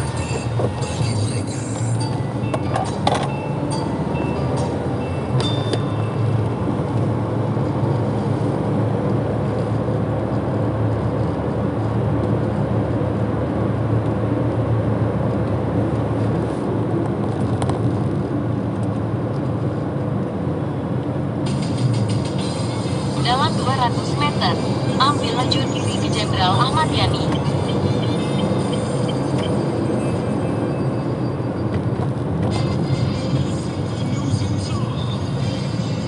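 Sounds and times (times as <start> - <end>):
car tyre and engine noise: 0.0 - 36.0.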